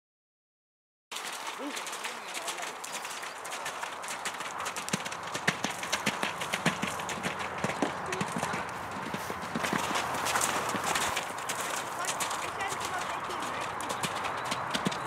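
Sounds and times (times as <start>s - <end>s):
horse hooves on wet sand: 1.1s - 15.0s.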